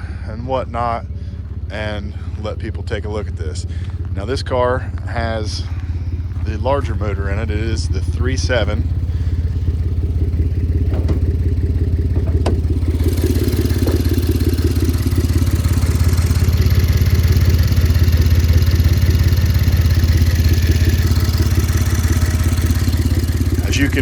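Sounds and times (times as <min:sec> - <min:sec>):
car engine idling: 0:00.0 - 0:24.0
exhaust leak puffing: 0:00.0 - 0:24.0.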